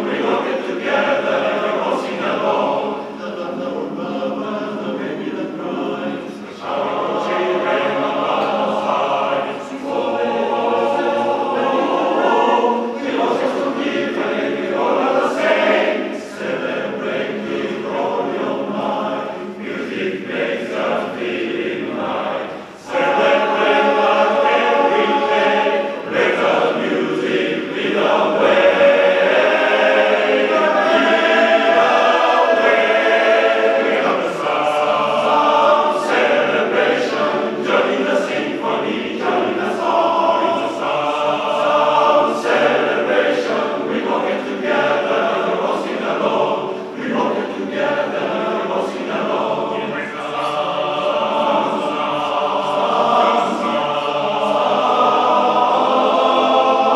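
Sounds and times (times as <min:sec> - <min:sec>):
men's chorus singing a cappella: 0:00.0 - 0:56.9.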